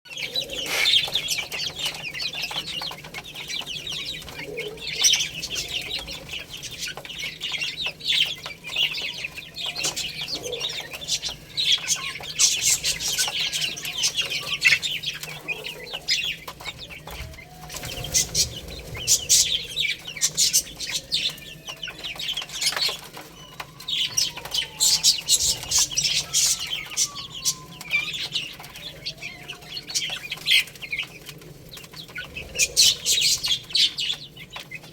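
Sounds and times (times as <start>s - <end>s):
baby chicks chirping: 0.1s - 34.9s.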